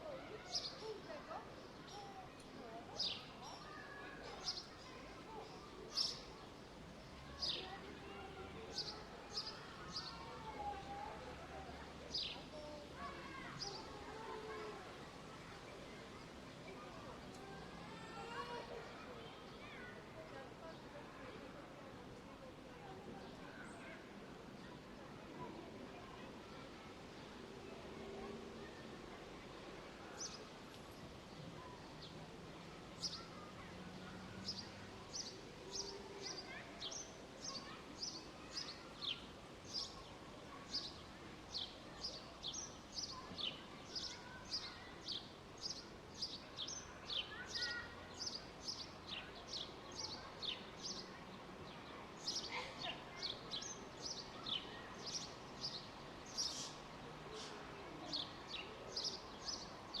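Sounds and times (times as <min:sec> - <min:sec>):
open-air ambience: 0:00.0 - 1:00.0.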